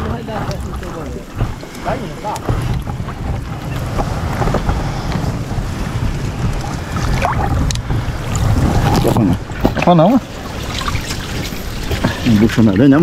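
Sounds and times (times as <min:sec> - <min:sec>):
muddy water sloshing and splashing: 0:00.0 - 0:13.0
wind rumble on microphone: 0:00.0 - 0:13.0.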